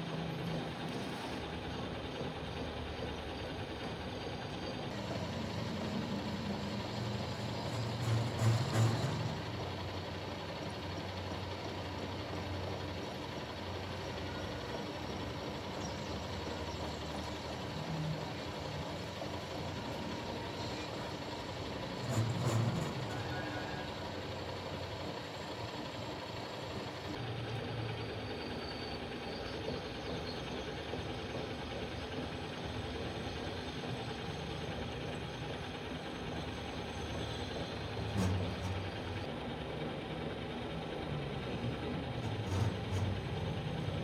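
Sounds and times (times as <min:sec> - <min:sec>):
machine running noise: 0:00.0 - 0:44.0.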